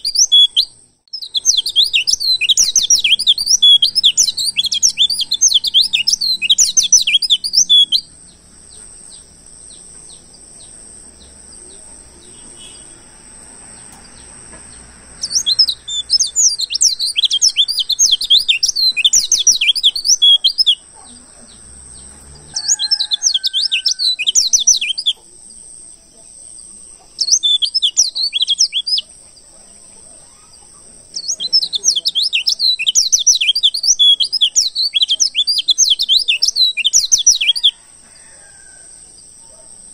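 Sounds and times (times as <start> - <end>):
bird twittering: 0.0 - 38.8.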